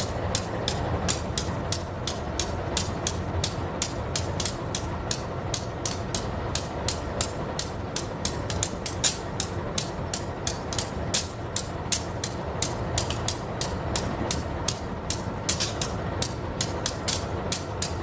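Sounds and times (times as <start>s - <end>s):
train wagons rumbling: 0.0s - 18.0s
wheels clicking over rail joints: 0.0s - 18.0s.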